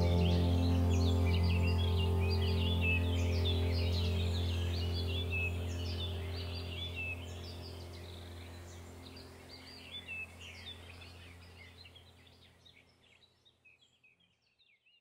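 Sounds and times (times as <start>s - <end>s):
low steady hum: 0.0s - 12.6s
birds chirping: 0.0s - 15.0s.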